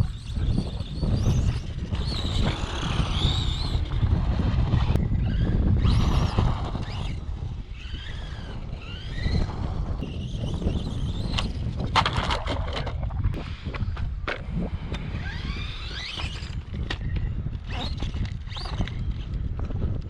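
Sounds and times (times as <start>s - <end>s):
electric motor whining: 0.0s - 11.9s, 14.8s - 19.4s
wind rumbling on microphone: 0.0s - 20.0s.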